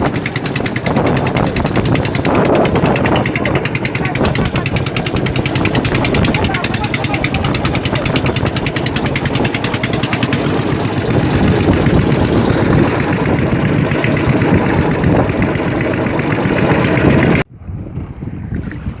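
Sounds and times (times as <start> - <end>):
boat engine pulsing: 0.0 - 17.5.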